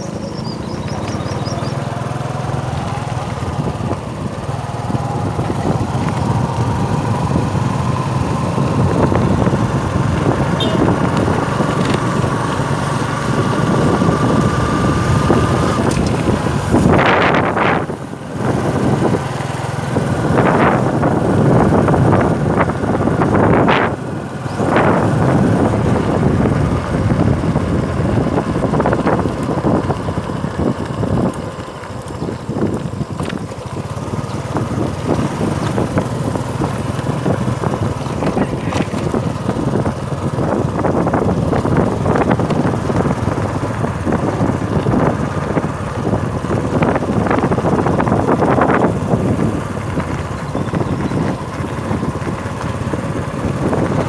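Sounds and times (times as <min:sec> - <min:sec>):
moving vehicle noise: 0:00.0 - 0:54.0
wind buffeting microphone: 0:00.3 - 0:54.0.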